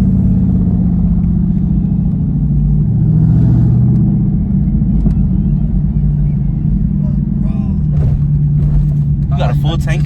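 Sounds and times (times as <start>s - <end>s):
car engine from inside cabin: 0.0s - 10.0s.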